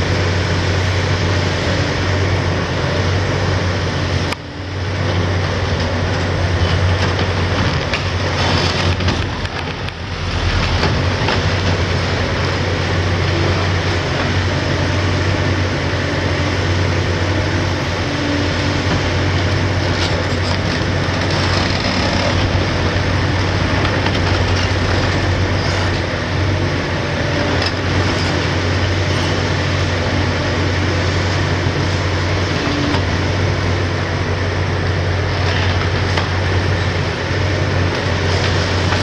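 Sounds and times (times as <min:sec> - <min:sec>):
diesel engine under load: 0:00.0 - 0:39.0.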